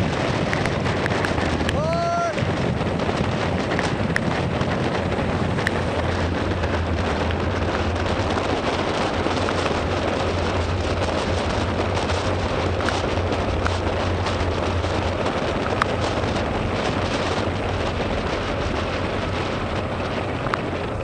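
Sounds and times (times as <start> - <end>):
low rumble: 0.0 - 21.0
wind and rain rushing: 0.0 - 21.0
raindrops ticking on camera: 0.4 - 21.0.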